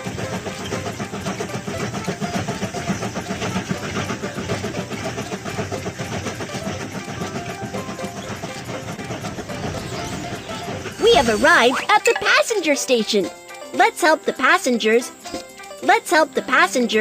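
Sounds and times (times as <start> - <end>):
cartoon steam train chugging: 0.0 - 17.0.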